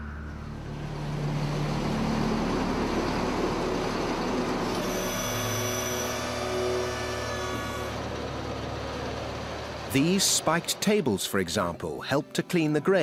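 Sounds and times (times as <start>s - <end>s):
steady whining tones: 0.0s - 11.0s
belt and pulley machinery running: 0.8s - 11.8s.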